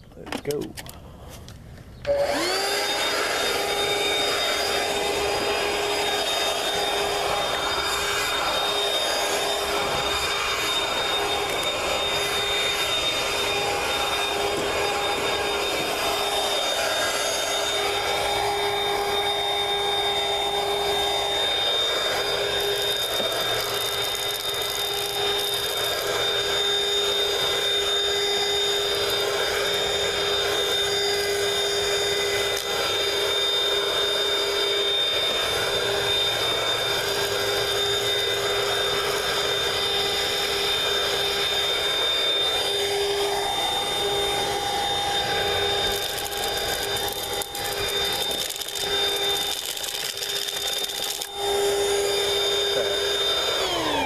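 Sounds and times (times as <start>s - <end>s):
handheld vacuum running: 2.0s - 54.0s.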